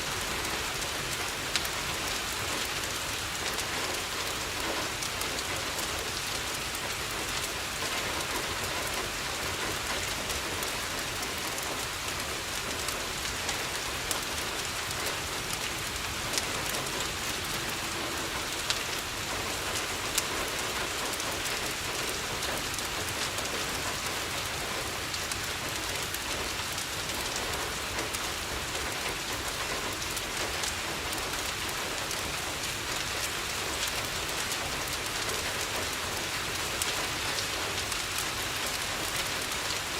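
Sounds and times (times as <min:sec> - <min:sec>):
rain on a window: 0:00.0 - 0:39.9
wood fire crackling: 0:00.0 - 0:39.9.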